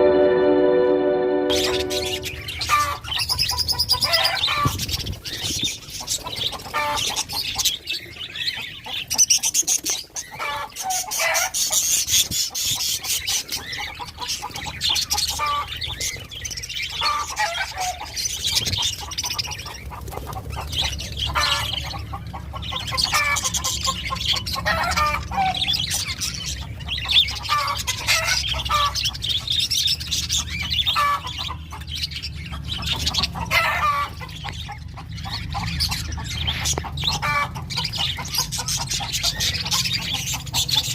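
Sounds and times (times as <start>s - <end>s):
parrots squawking and chirping: 1.5s - 40.9s.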